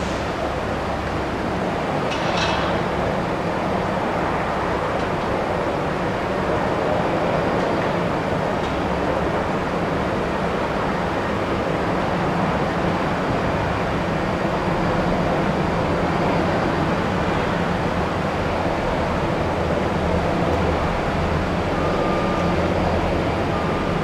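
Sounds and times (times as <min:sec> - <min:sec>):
aircraft engines droning: 0:00.0 - 0:24.0.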